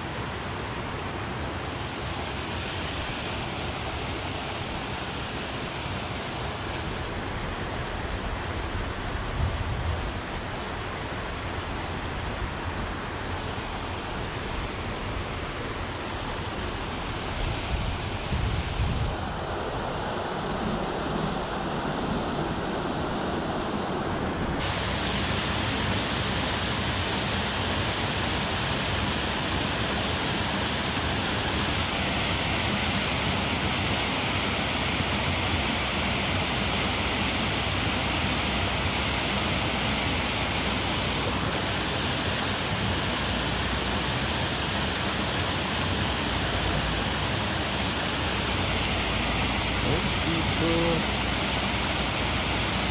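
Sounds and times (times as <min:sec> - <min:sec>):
river water flowing over rocks: 0:00.0 - 0:52.9.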